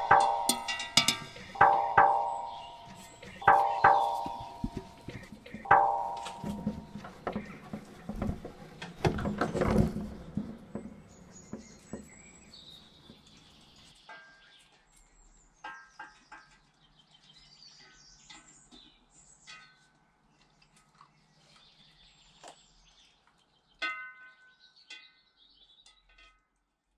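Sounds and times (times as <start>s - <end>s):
faint birdsong: 0.0s - 26.5s.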